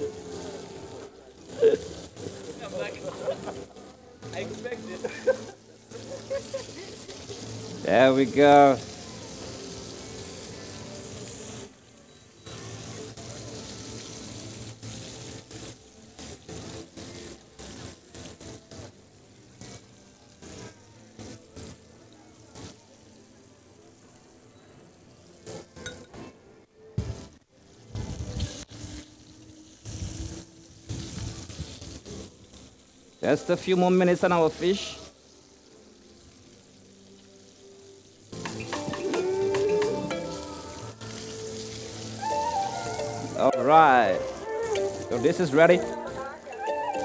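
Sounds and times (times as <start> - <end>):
fish frying in oil: 0.0 - 24.4, 27.0 - 47.0.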